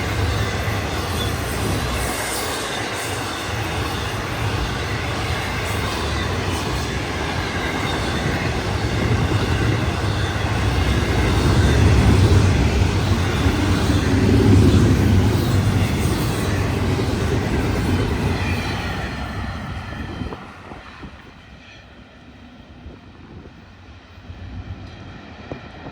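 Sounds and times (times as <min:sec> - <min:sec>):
freight train rumbling past: 0:00.0 - 0:25.9.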